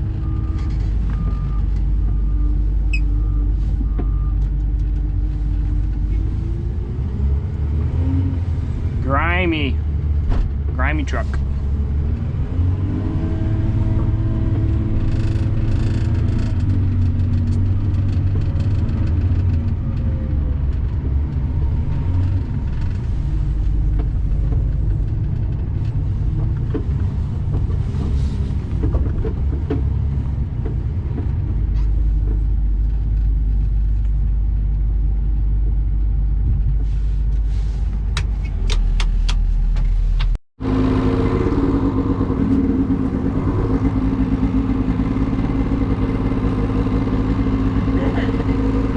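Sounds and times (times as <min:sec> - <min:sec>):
truck engine rumbling: 0:00.0 - 0:48.9.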